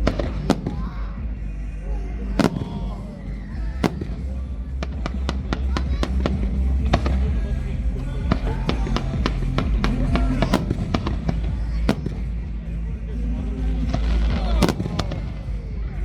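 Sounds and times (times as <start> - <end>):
fireworks bangs and cracks: 0.0 - 1.1, 2.4 - 12.8, 13.8 - 15.6.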